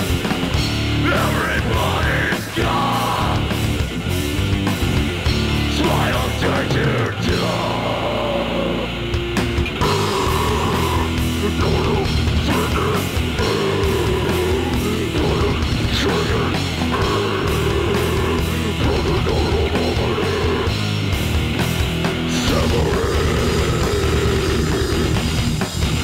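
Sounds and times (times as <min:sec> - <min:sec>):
bass guitar: 0:00.0 - 0:26.0
heavy distorted guitars: 0:00.0 - 0:26.0.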